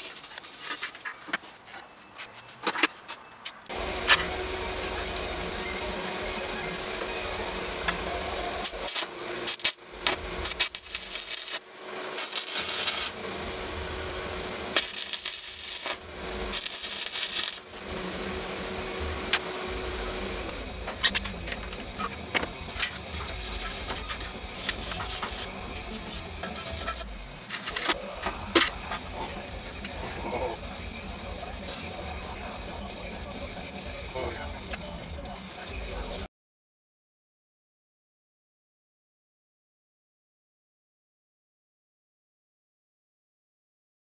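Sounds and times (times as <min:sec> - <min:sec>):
arc welder crackling: 0:00.0 - 0:01.6, 0:02.3 - 0:36.2.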